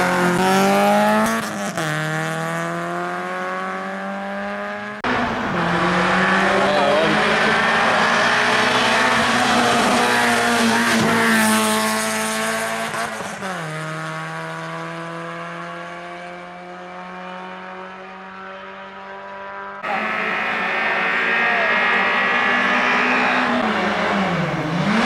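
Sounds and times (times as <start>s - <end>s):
car engine racing past: 0.0s - 25.0s.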